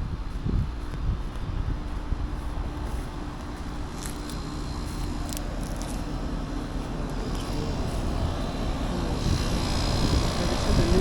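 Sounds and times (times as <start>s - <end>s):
air conditioner units humming: 0.0s - 11.0s.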